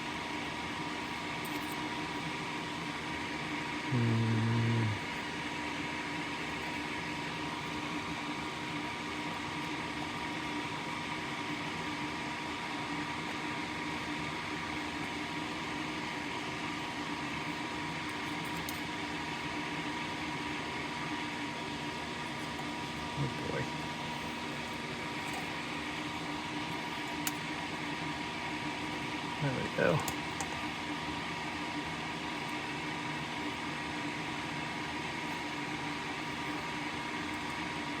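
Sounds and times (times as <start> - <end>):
fan-like hum and hiss: 0.0 - 38.0
low electrical buzz: 0.0 - 38.0.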